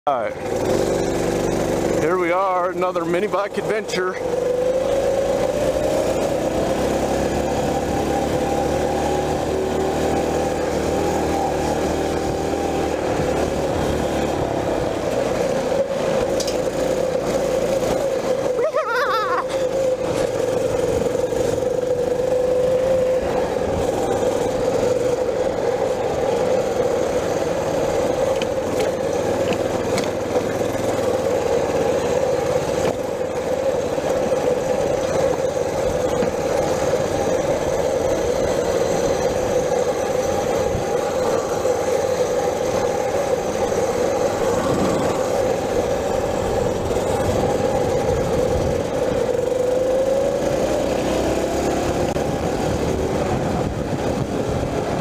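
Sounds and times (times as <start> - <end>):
small motorbike engine running: 0.1 - 55.0.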